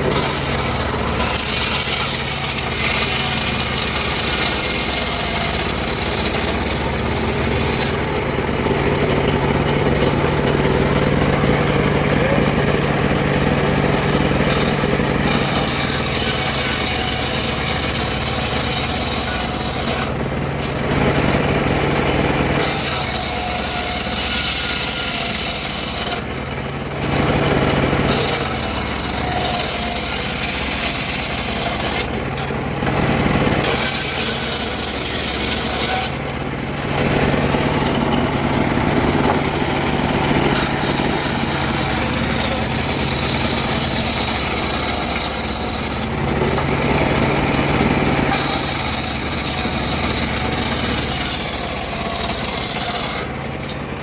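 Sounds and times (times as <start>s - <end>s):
power saw cutting wood: 0.0s - 54.0s.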